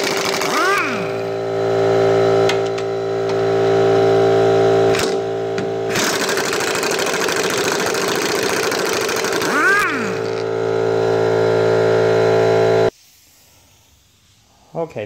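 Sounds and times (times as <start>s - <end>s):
air compressor humming: 0.0s - 12.9s
pneumatic impact wrench: 0.0s - 12.9s.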